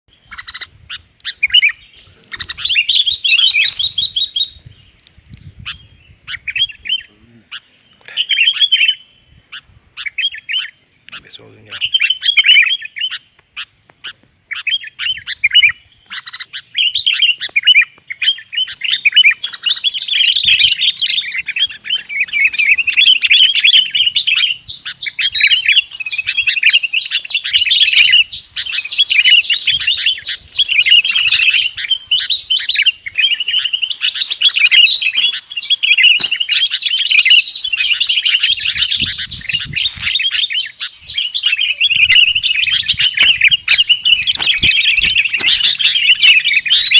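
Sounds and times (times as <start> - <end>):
birds chirping: 0.1 - 46.9.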